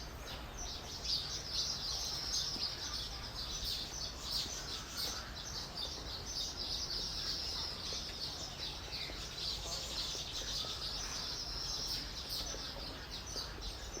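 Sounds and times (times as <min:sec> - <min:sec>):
birds chirping and chattering: 0:00.0 - 0:14.0.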